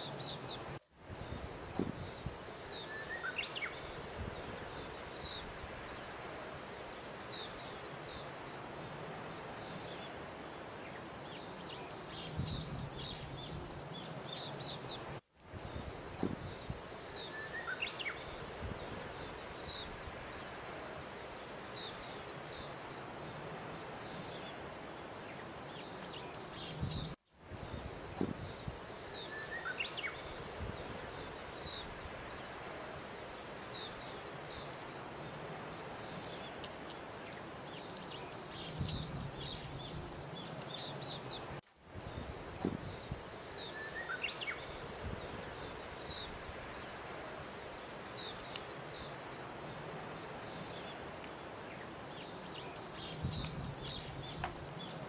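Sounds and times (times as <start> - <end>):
small birds chirping: 0.0 - 55.0
steady outdoor hiss: 0.0 - 55.0.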